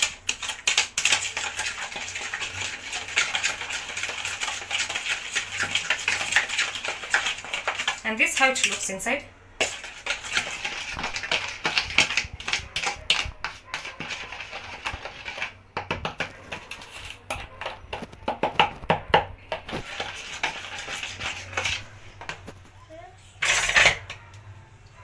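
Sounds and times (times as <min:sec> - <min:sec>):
spoon beating batter in plastic bowl: 0:00.0 - 0:22.8.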